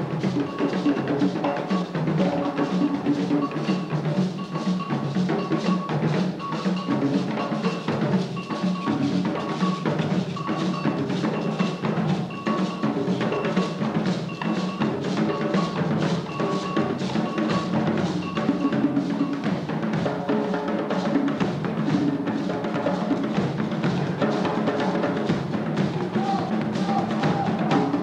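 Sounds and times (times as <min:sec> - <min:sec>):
hand drum ensemble: 0:00.0 - 0:28.0.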